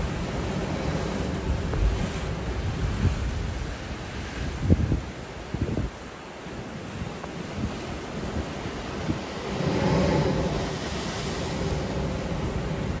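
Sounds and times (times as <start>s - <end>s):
blowhole rush of spray and air: 0.0s - 13.0s
ocean surf washing over rock: 0.0s - 13.0s.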